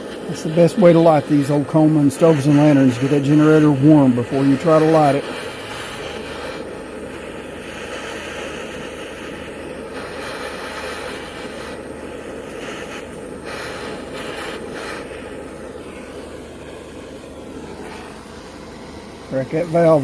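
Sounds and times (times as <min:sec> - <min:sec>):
stove flame hissing: 0:00.0 - 0:20.0.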